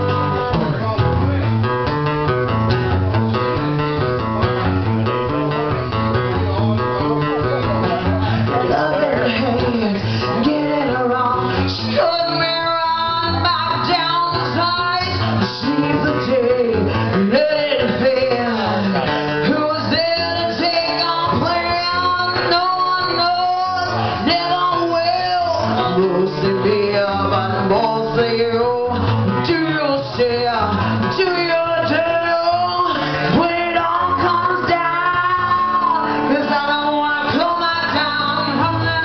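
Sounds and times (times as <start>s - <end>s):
strummed acoustic guitar: 0.0s - 39.0s
person singing lead vocal: 4.8s - 39.0s.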